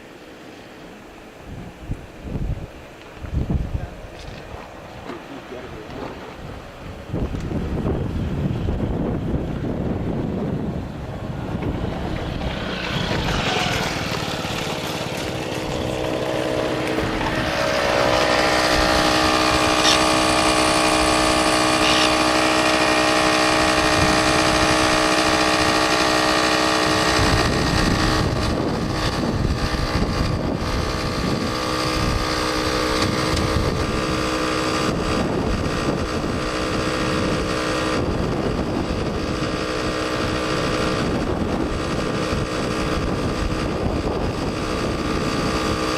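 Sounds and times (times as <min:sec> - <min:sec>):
vehicle engine running: 0:01.6 - 0:45.9.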